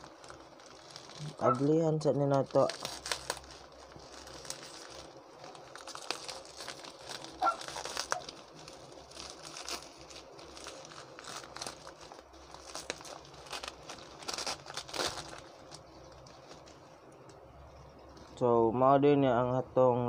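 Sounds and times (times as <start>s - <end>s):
plastic packaging crinkling: 0.0s - 18.4s.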